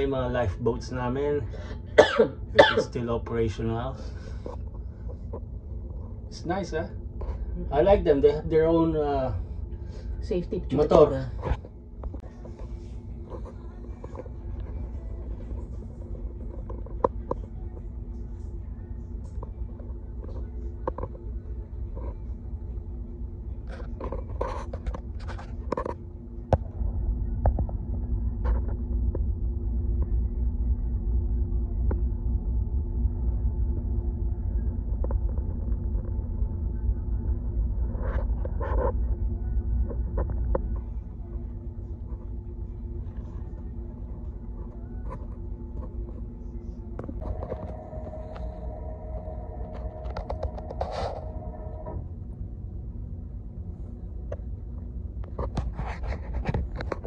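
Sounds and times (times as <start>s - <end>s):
faint hum: 0.0s - 57.0s
muffled voices: 0.0s - 57.0s
steady low rumble: 0.0s - 57.0s.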